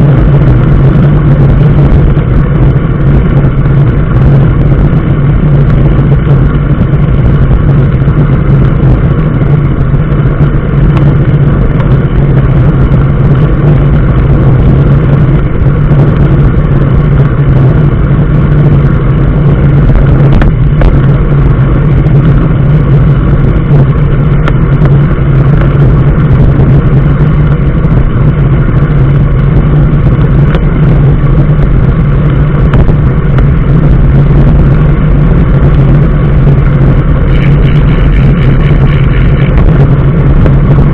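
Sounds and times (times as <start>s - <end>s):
road noise: 0.0s - 40.9s
vehicle engine hum: 0.0s - 40.9s.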